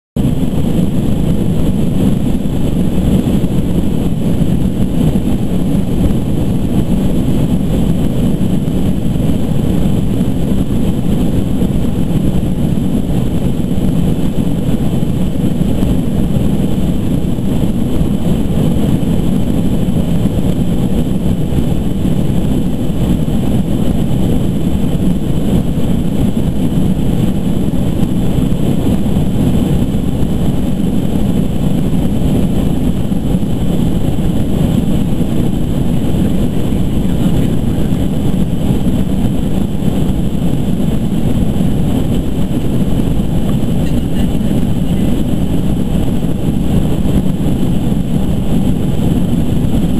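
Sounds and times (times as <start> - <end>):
jet engines rumbling in cabin: 0.2 - 49.9
thin high whine: 0.2 - 49.9.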